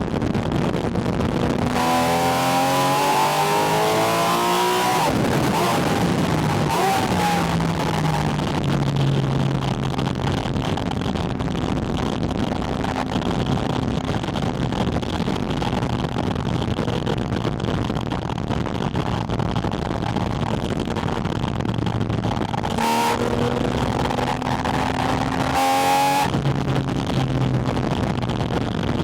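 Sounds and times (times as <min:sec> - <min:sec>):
wind rush: 0:00.0 - 0:29.0.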